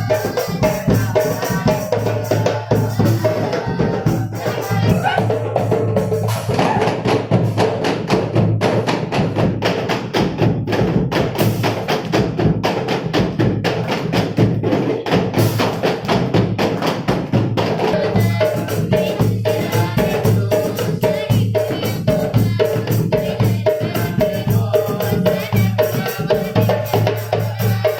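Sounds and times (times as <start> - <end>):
hand drums playing fast rhythm: 0.0 - 27.9.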